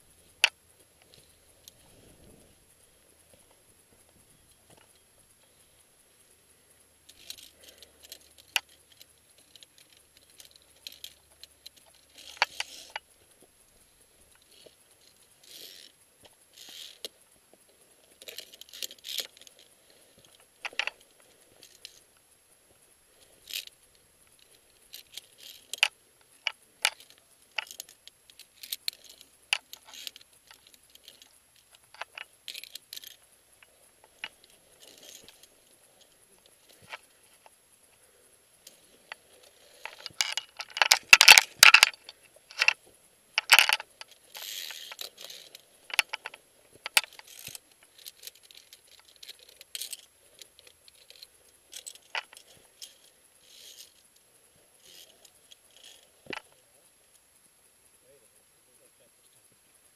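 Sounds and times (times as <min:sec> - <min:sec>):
gear scraping on cable: 0:00.0 - 0:05.8, 0:07.1 - 0:22.1, 0:22.7 - 0:56.6
metallic clicks of climbing gear: 0:00.0 - 0:59.9.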